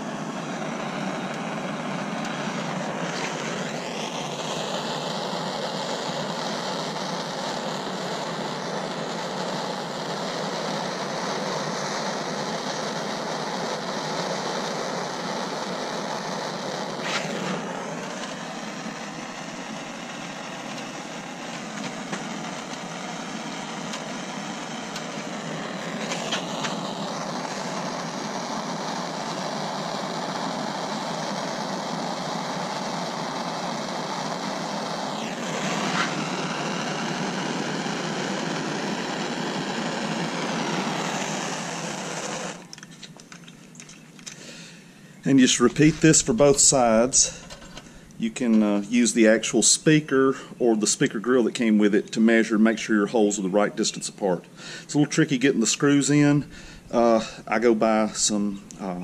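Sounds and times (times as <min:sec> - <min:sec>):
gas torch hissing: 0:00.0 - 0:59.0.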